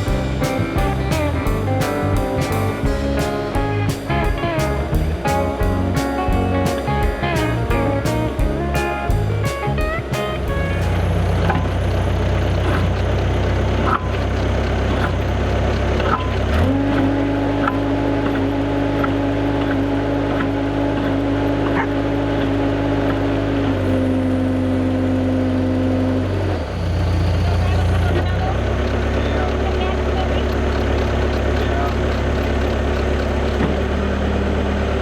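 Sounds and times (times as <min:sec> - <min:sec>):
skid steer engine revving: 0:00.0 - 0:35.0.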